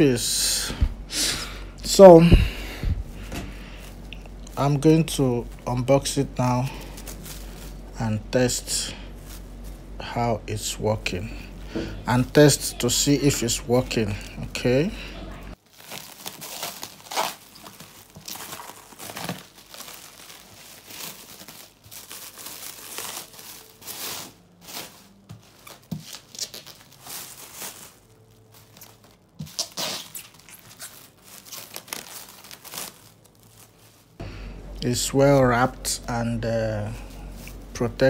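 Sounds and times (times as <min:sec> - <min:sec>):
plastic wrap crinkling: 0:01.9 - 0:34.2, 0:35.2 - 0:38.0.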